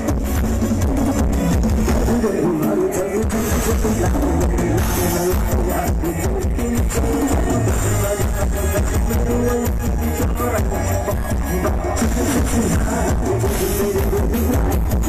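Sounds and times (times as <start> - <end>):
loud bass-heavy dance music: 0.0 - 15.0.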